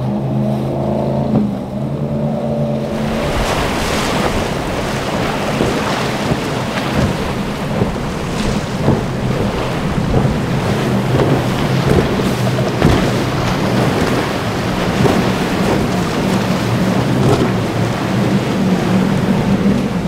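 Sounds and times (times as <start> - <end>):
boat engines droning: 0.0 - 20.0
spray and choppy water: 0.0 - 20.0
wind noise on microphone: 1.0 - 20.0.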